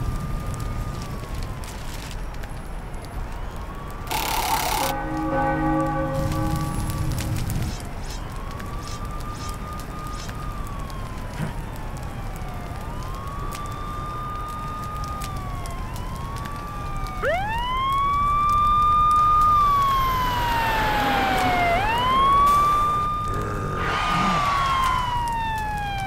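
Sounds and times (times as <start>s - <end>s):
sirens wailing: 0.0s - 26.0s.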